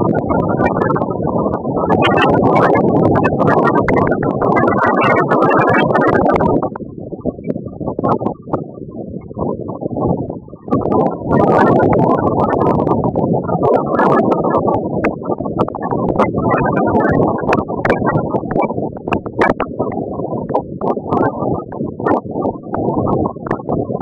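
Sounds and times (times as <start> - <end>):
microphone crackles: 0.0 - 24.0
wind buffeting microphone: 0.0 - 24.0.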